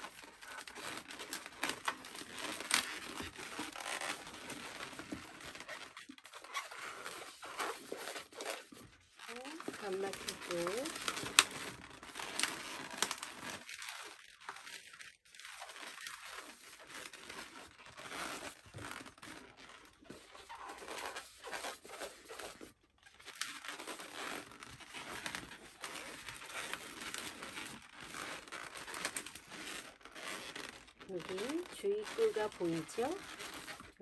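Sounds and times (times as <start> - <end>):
rubber balloon scrunching: 0.0 - 34.0.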